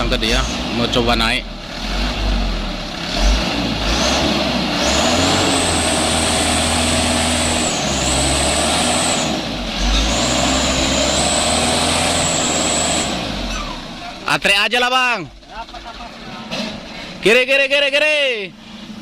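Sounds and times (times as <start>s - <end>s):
truck diesel engine pulling hard: 0.0s - 19.0s.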